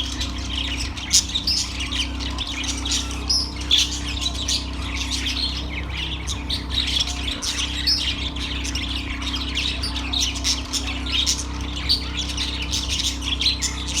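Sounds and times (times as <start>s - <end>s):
budgerigars chirping and chattering: 0.0s - 14.0s
low steady hum: 0.0s - 14.0s.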